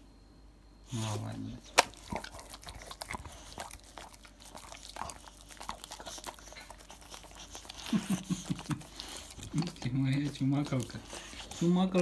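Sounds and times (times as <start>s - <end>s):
dog chewing food: 1.0s - 12.0s.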